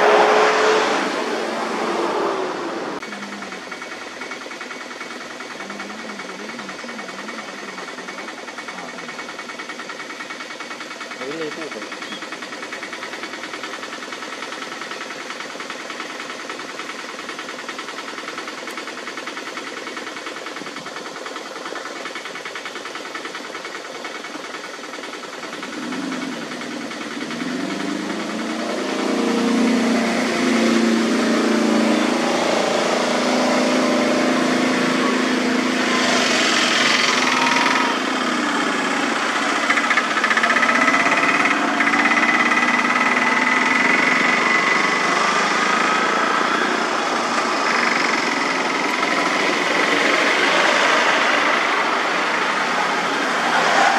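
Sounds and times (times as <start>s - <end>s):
diesel engines idling: 0.0s - 53.9s
engine approaching and slowing: 0.0s - 53.9s.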